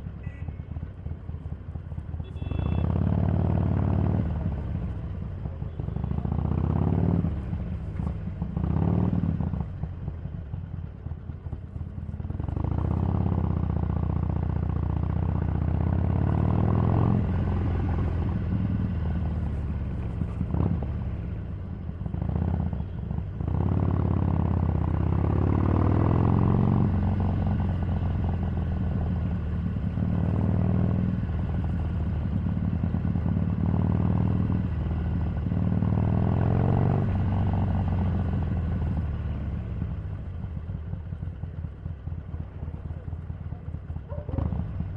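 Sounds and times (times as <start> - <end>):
motorcycle engine revving: 6.0 - 9.8, 12.2 - 44.9.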